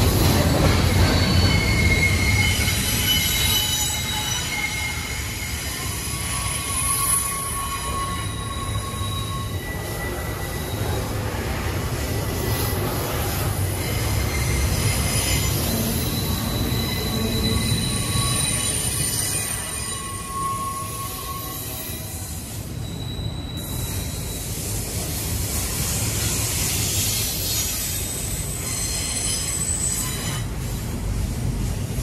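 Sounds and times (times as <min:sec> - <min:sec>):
rolling railcars rumbling: 0:00.0 - 0:32.0
train wheels squealing: 0:00.0 - 0:32.0.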